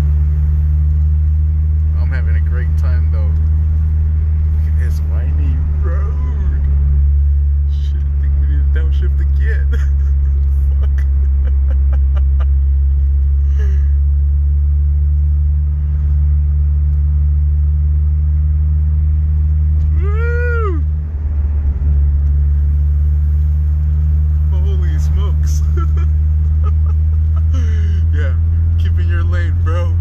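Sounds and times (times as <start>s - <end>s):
car engine droning from inside cabin: 0.0s - 30.0s.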